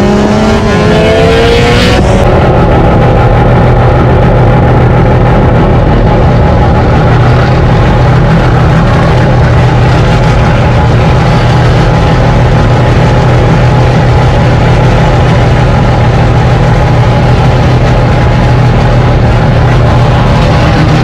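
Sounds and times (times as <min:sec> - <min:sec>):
rotary engine running steadily: 0:00.0 - 0:21.0.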